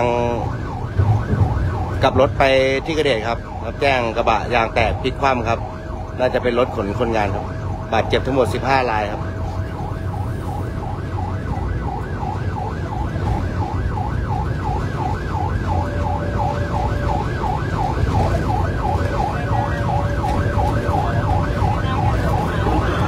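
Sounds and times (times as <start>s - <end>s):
engine and road rumble: 0.0s - 23.0s
siren yelping: 0.0s - 23.0s.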